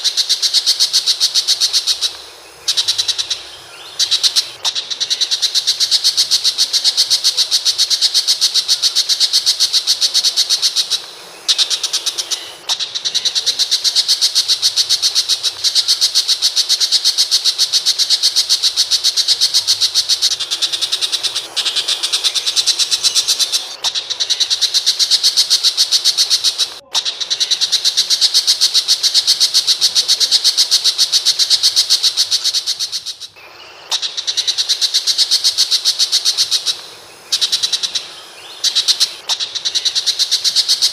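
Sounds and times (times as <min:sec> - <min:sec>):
bird harsh chattering: 0:00.0 - 0:40.9.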